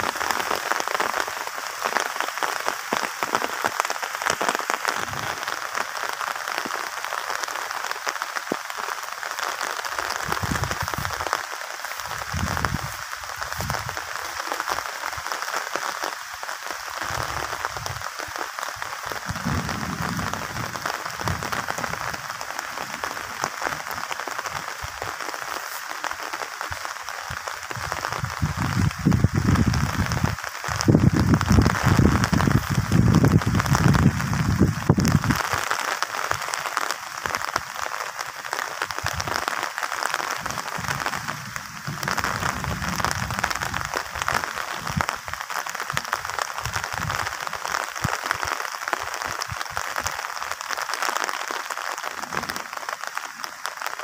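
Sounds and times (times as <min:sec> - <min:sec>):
steady outdoor hiss: 0:00.0 - 0:54.0.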